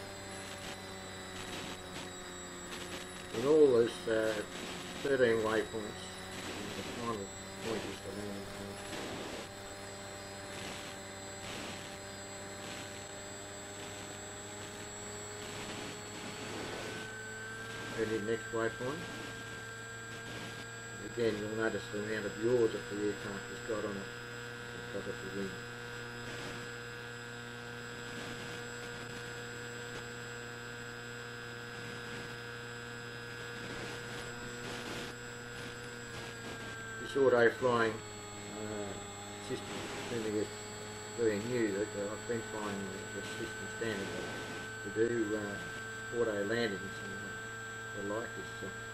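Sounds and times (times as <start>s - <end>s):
high-pitched whine tones: 0.0s - 48.9s
steady electrical hum: 0.0s - 48.9s.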